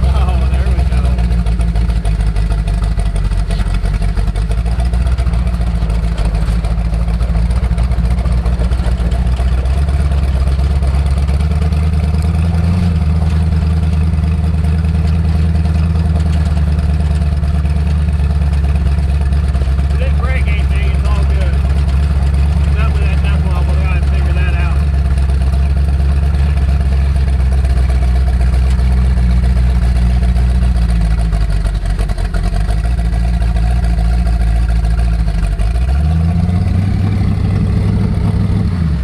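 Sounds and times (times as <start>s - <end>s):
car engine low rumble: 0.0s - 39.0s.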